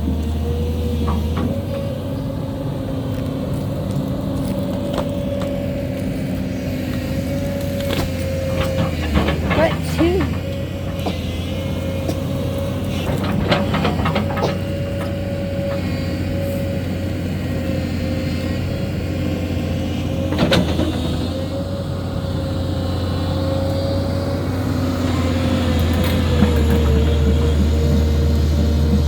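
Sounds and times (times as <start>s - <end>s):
heavy machine engine whining: 0.0s - 29.0s.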